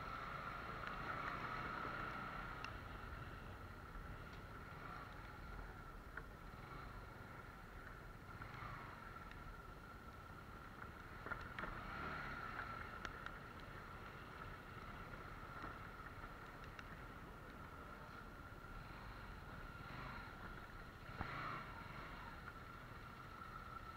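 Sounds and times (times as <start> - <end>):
motorcycle engine and road noise: 0.0 - 23.9
faint ticks: 0.1 - 23.9.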